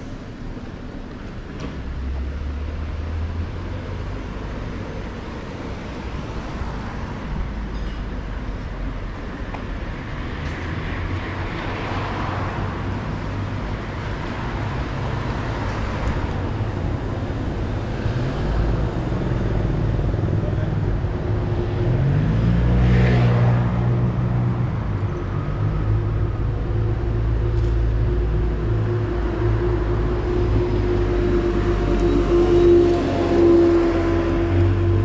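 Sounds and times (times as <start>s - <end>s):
car engines and tyres rumbling: 0.0s - 35.0s.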